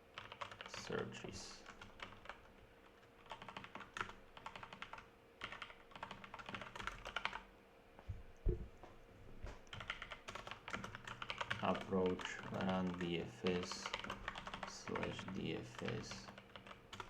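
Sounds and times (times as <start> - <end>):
keyboard typing: 0.2 - 1.0, 1.6 - 7.4, 9.6 - 17.0.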